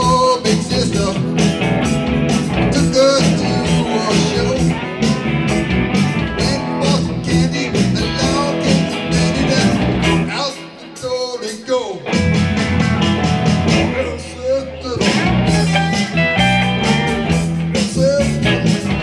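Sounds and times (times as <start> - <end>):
rock and roll band playing: 0.0 - 19.0.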